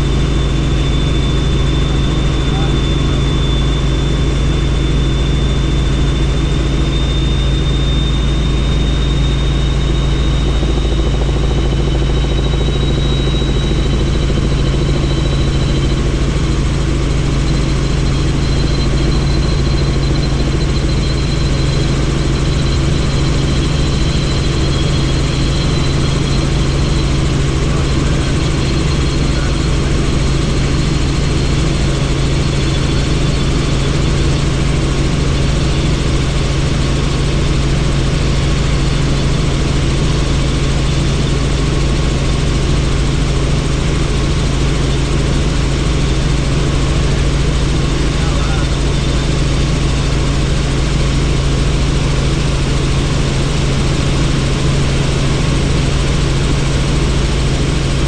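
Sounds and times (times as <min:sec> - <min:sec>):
helicopter rotor and engine drone: 0:00.0 - 0:58.0
high turbine whine: 0:00.0 - 0:58.0.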